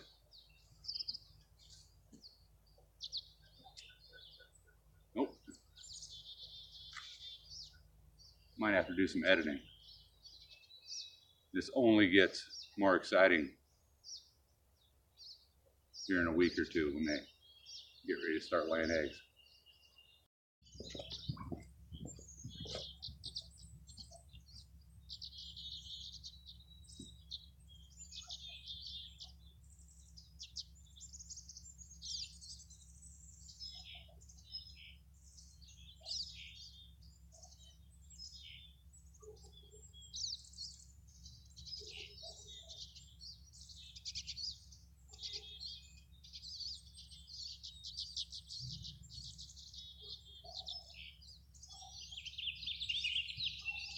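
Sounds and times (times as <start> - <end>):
swallows twittering: 0.0 - 53.9.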